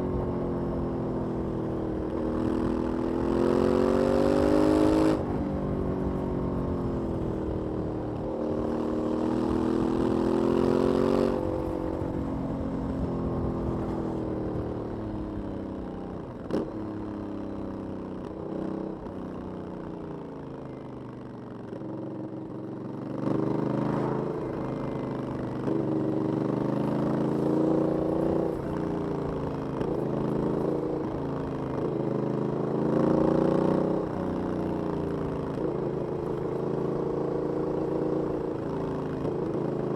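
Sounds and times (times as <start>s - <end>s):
motorcycle engine revving: 0.0s - 19.9s, 21.8s - 39.9s.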